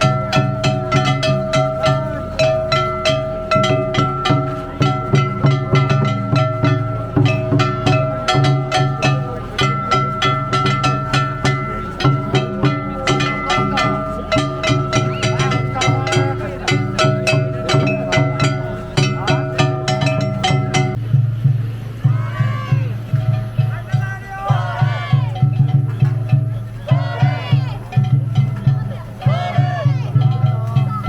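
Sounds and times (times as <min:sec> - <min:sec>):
drum strikes: 0:00.0 - 0:31.0
festival music: 0:00.0 - 0:31.0
plucked string notes: 0:00.0 - 0:31.0.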